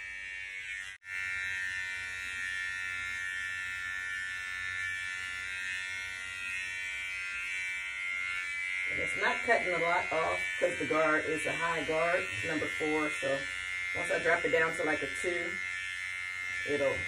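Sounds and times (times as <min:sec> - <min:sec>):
electric hair clippers buzzing: 0:00.0 - 0:17.0.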